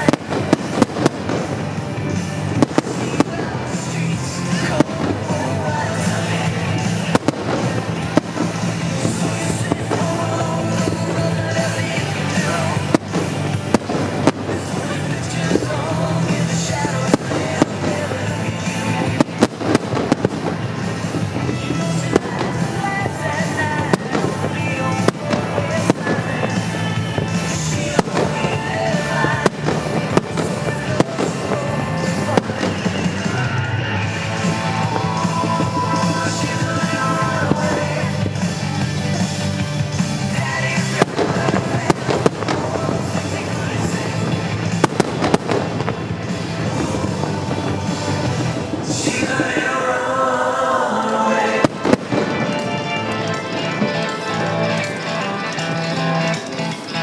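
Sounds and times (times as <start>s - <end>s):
fireworks bursting: 0.0s - 57.0s
music playing: 0.0s - 57.0s.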